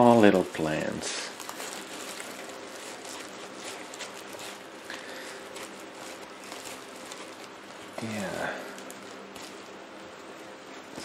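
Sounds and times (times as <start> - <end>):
paper wrapping rustling: 0.0 - 10.0
steady low hiss: 0.0 - 11.0.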